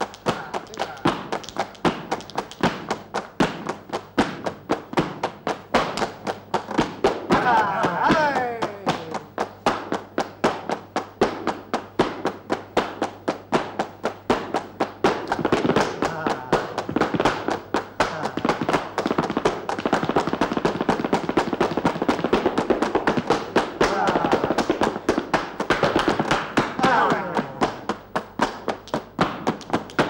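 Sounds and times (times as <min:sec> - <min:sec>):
sharp handclaps: 0:00.0 - 0:30.0
shoe heels striking stage floor: 0:00.0 - 0:30.0.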